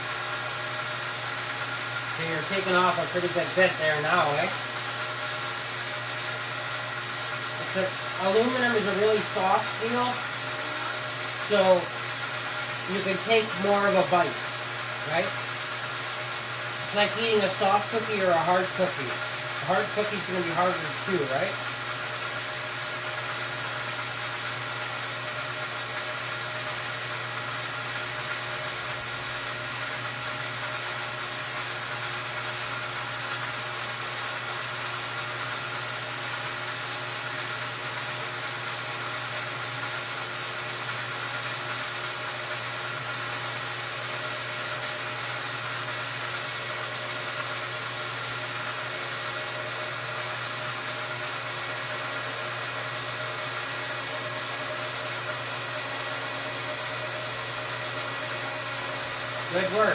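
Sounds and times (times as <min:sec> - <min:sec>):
metal lathe humming and whining: 0:00.0 - 0:59.9.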